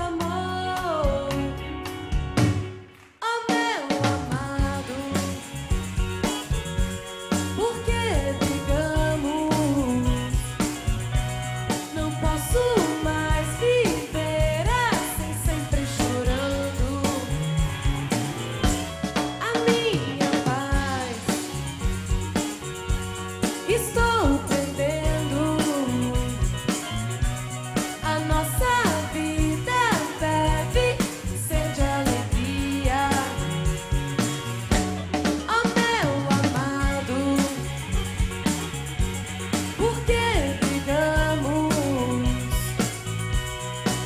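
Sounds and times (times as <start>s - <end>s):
pop ballad band music: 0.0s - 44.0s
steady drum beat: 4.0s - 44.0s.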